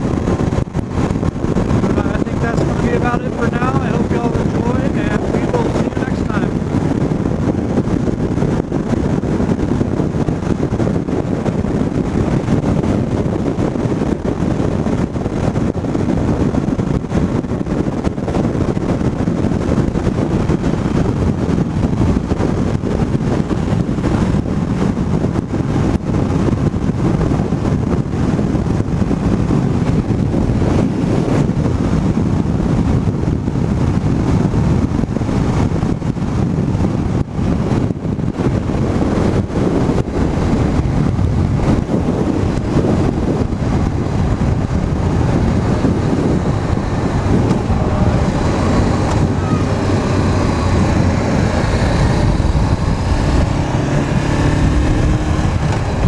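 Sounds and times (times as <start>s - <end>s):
motorcycle road noise: 0.0s - 56.0s
wind rush: 0.0s - 56.0s.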